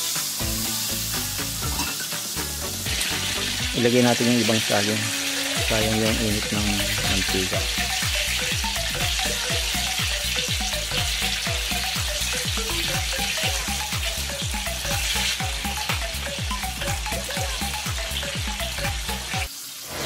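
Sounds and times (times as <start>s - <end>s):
rolls sizzling in hot oil: 0.0s - 20.0s.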